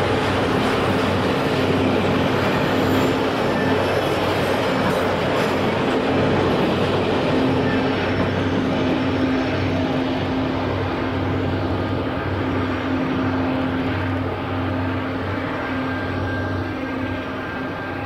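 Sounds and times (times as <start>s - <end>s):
passenger train rumbling: 0.0s - 18.0s.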